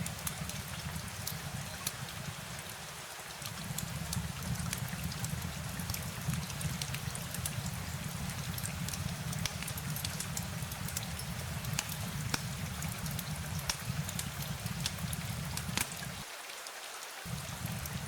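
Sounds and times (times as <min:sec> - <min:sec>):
water drips ticking: 0:00.0 - 0:16.2, 0:17.3 - 0:18.0
steady rain: 0:00.0 - 0:18.0.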